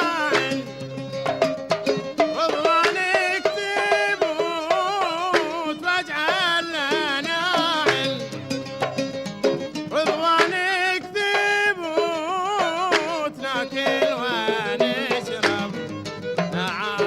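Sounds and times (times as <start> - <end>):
ornamented violin melody: 0.0 - 11.2, 12.9 - 17.0
hand drum beat: 0.0 - 17.0.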